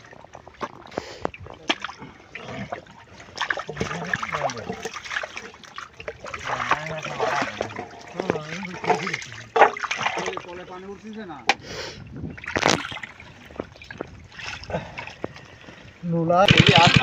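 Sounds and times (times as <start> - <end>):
muddy water splashing: 0.0 - 17.0.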